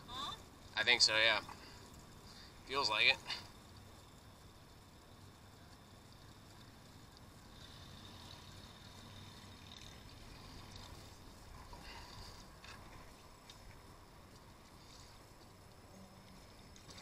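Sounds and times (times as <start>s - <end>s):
faint water noise: 0.0s - 17.0s.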